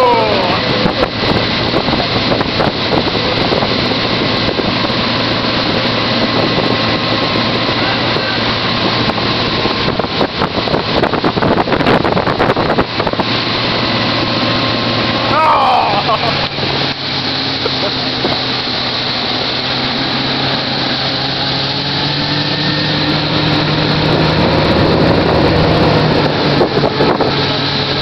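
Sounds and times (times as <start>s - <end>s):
wind buffeting microphone: 0.0s - 15.3s, 16.0s - 28.0s
motorboat engine running: 0.0s - 28.0s
water rushing: 0.0s - 28.0s.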